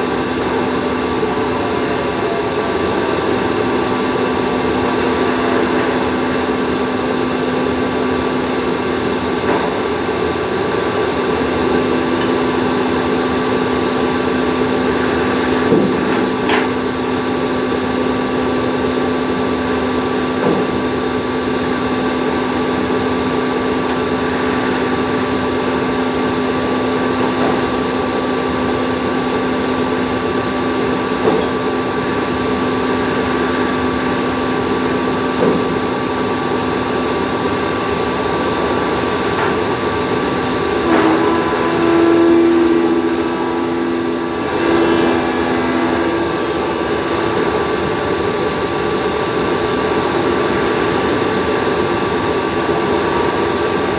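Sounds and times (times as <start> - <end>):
high machine whine: 0.0 - 53.9
machine humming: 0.0 - 53.9.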